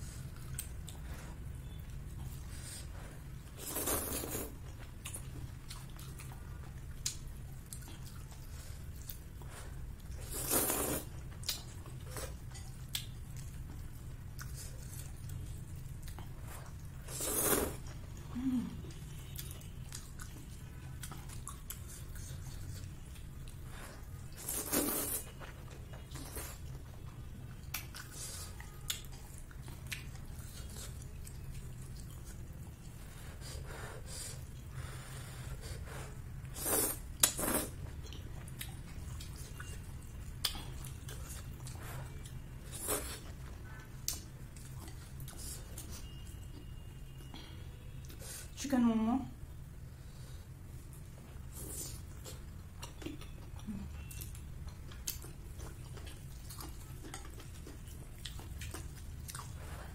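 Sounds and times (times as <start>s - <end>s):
person chewing noodles: 0.0s - 48.4s, 49.9s - 59.9s.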